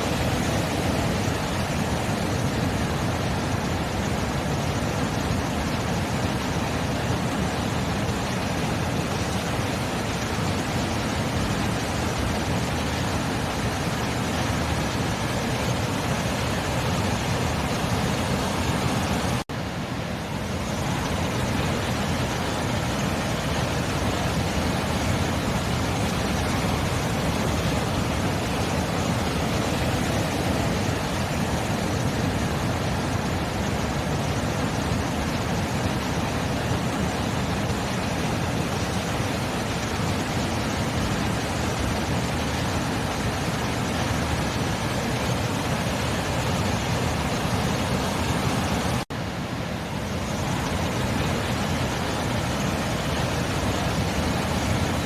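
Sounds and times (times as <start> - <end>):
sea surf washing: 0.0 - 55.0.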